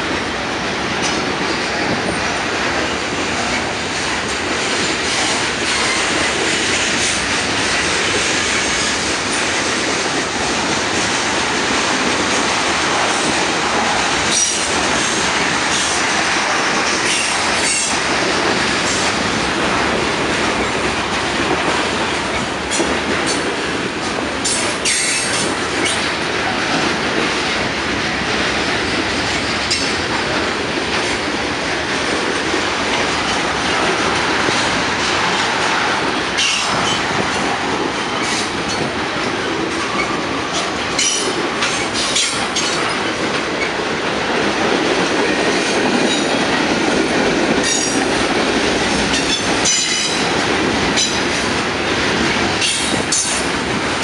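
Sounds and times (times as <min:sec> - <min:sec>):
train clanks: 0:00.0 - 0:54.0
train wheels rumbling on rail: 0:00.0 - 0:54.0.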